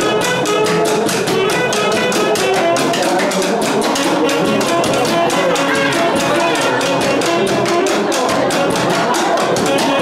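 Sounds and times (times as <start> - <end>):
fast drum beat: 0.0 - 10.0
saxophones playing a melody: 0.0 - 10.0.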